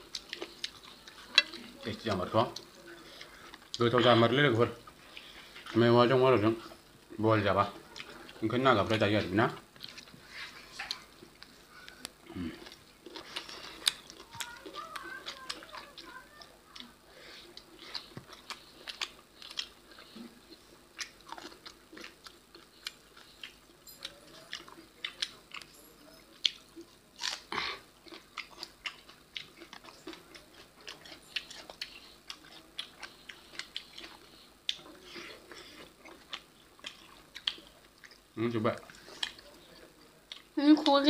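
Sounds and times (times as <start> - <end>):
people chewing and lip smacking: 0.0 - 41.0.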